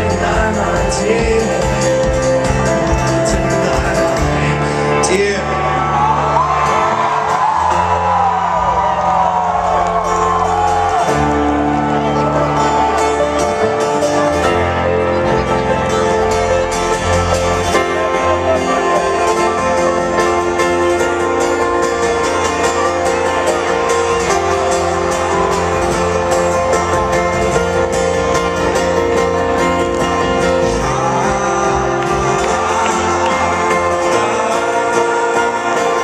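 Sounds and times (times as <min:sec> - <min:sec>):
banjo: 0:00.0 - 0:05.4, 0:09.6 - 0:36.0
strummed acoustic guitar: 0:00.0 - 0:05.6, 0:09.9 - 0:36.0
folk-rock band playing: 0:00.0 - 0:36.0.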